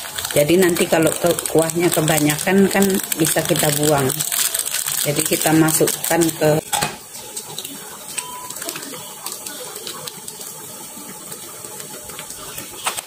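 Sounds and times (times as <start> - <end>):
broth boiling in a pan: 0.0 - 13.0.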